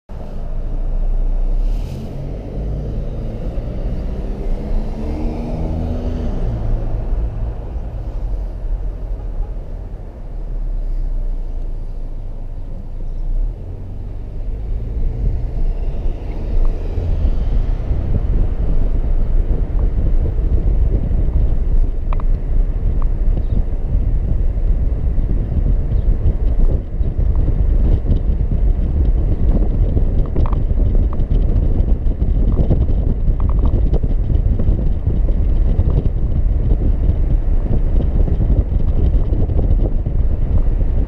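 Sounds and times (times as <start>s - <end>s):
car engine and road rumble: 0.1s - 41.0s.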